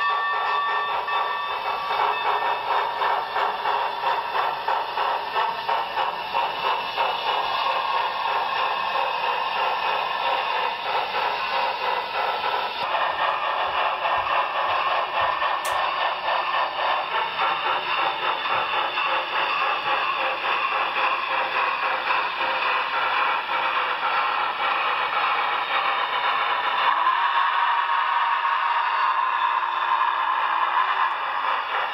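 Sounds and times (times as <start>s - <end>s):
model train clatter and hum: 0.0s - 31.9s.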